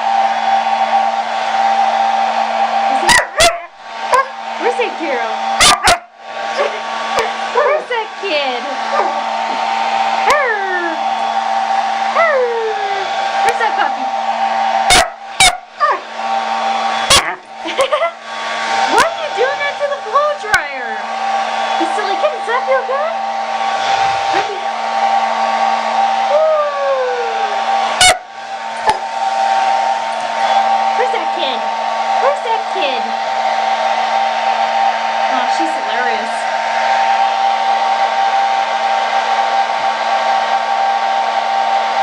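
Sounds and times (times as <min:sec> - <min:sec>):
hair dryer whine: 0:00.0 - 0:42.0.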